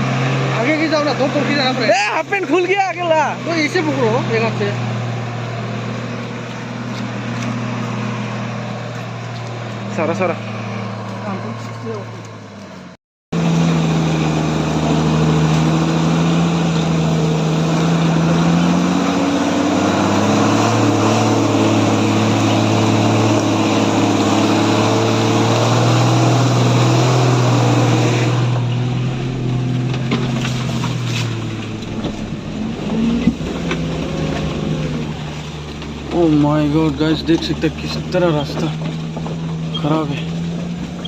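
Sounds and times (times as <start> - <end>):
vehicle engine running hard: 0.0 - 41.0.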